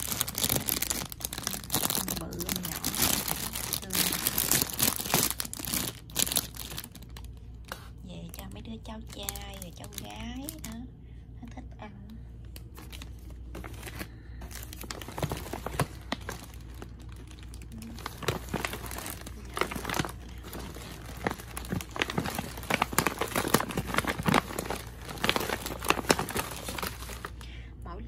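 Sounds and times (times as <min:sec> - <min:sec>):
plastic packaging crinkling: 0:00.0 - 0:10.8, 0:12.4 - 0:27.4.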